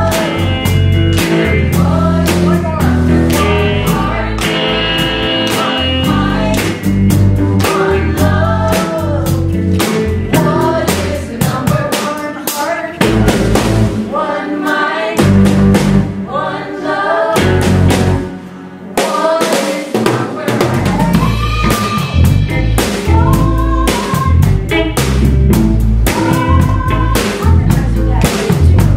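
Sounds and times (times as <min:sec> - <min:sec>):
live rock band playing: 0:00.0 - 0:14.1, 0:15.2 - 0:16.3, 0:17.4 - 0:18.9, 0:20.5 - 0:28.9
lead singer: 0:00.0 - 0:15.5, 0:16.2 - 0:24.8, 0:26.0 - 0:28.9
backing singers: 0:00.0 - 0:24.8, 0:26.0 - 0:28.9.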